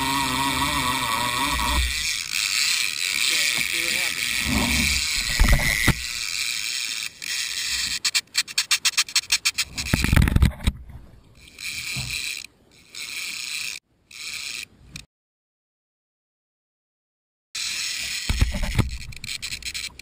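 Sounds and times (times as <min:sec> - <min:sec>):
fishing reel drag clicking: 0:00.0 - 0:10.2, 0:11.4 - 0:15.1, 0:17.6 - 0:20.0.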